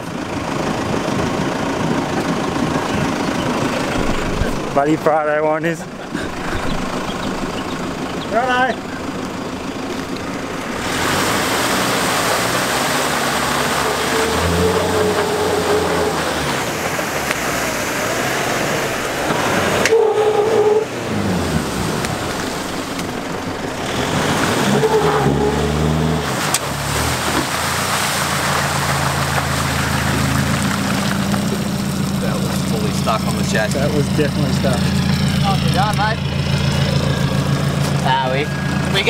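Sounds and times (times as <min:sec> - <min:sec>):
diesel engines revving: 0:00.0 - 0:39.0
tyres churning mud: 0:00.0 - 0:39.0.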